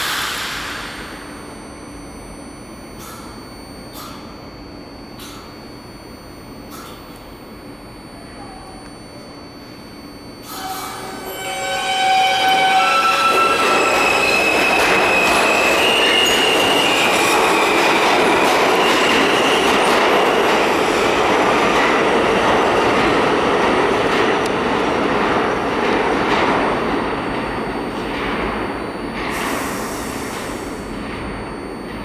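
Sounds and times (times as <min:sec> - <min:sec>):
train propulsion whine: 0:00.0 - 0:32.0.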